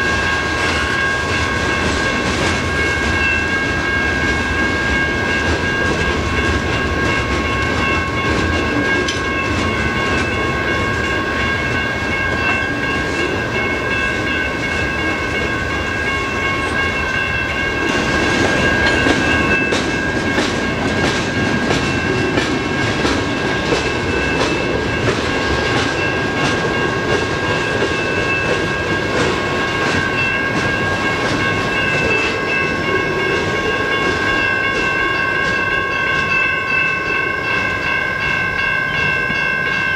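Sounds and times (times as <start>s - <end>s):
crossing bell ringing: 0.0s - 39.9s
train wheels clacking on rails: 0.0s - 39.9s.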